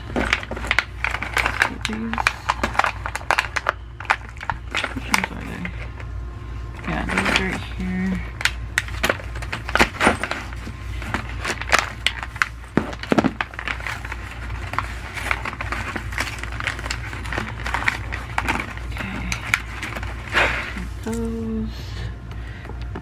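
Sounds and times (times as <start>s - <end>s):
plastic crackling: 0.0s - 6.1s, 6.7s - 21.4s
steady low hum: 0.0s - 23.0s.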